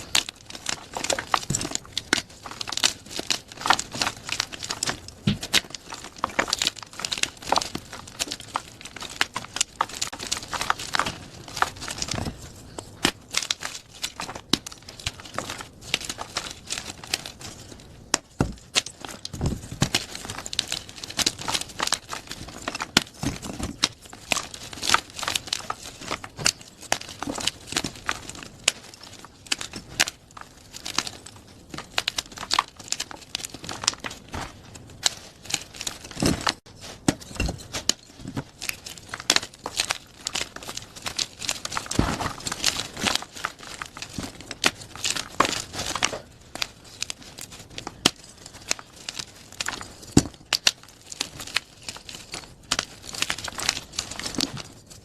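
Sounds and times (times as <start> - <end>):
chalk crunching and crackling: 0.0 - 55.0.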